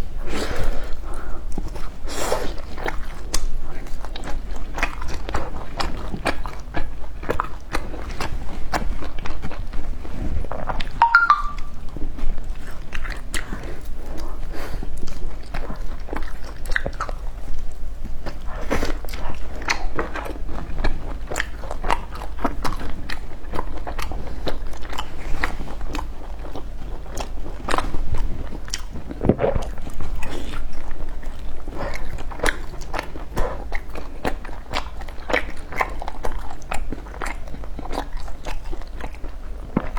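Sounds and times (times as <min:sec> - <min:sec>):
crunchy food chewing: 0:00.5 - 0:11.0, 0:12.2 - 0:39.9.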